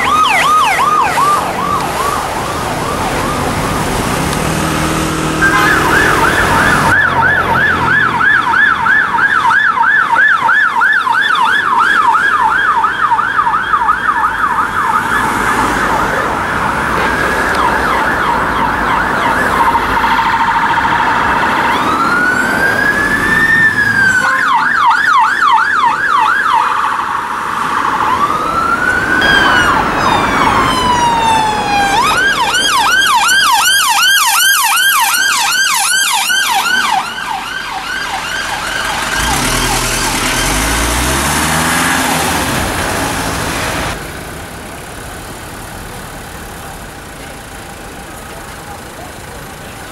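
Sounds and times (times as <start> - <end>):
emergency vehicle sirens: 0.0 - 49.9
traffic noise: 0.0 - 49.9.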